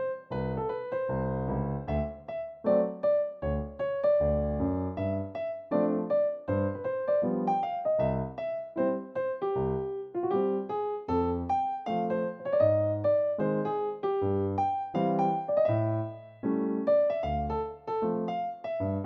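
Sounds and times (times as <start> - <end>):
light bouncy piano tune: 0.0 - 19.0.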